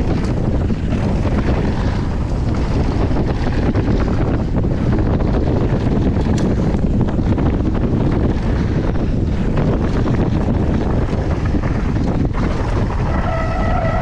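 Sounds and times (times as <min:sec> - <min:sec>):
bike tyres on loose gravel: 0:00.0 - 0:14.0
wind buffeting microphone: 0:00.0 - 0:14.0.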